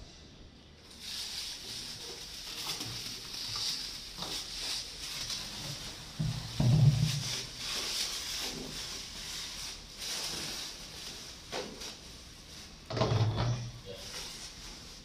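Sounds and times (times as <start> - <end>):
plastic bin liner rustling: 0.9 - 15.0.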